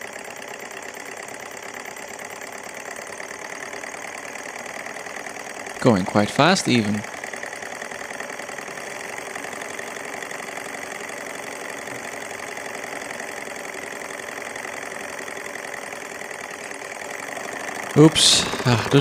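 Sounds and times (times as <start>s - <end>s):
model engine rapid mechanical clatter: 0.0s - 19.0s.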